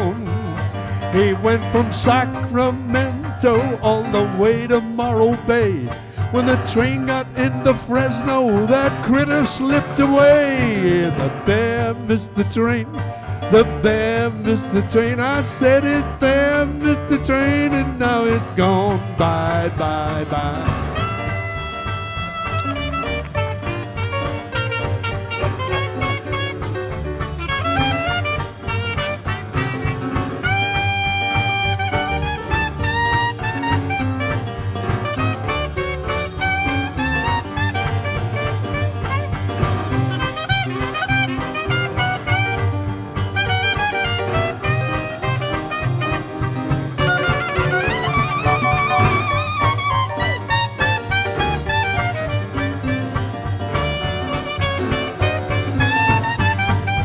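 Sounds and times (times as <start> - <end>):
jazz band playing: 0.0 - 57.0.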